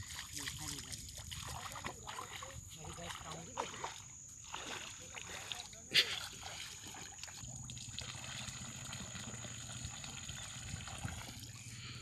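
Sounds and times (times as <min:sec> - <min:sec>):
water trickling into river water: 0:00.0 - 0:12.0.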